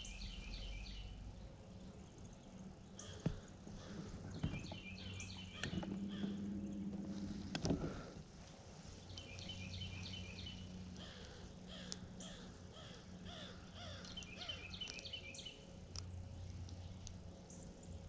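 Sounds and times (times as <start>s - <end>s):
birds chirping: 0.0s - 18.0s
low hum: 0.0s - 18.0s.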